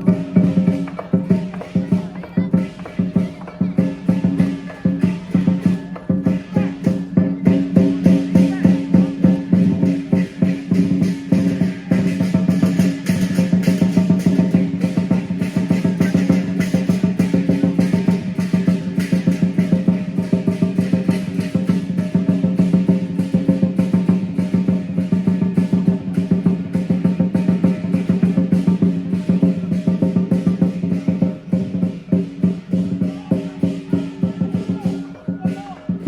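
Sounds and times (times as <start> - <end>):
cymbals clashing: 0.0 - 36.0
lion drum beaten in fast rolls: 0.0 - 36.0.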